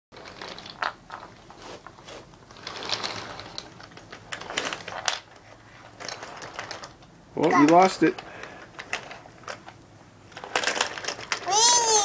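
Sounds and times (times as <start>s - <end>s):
toy train pieces clicking and rattling: 0.2s - 9.7s, 10.3s - 12.0s.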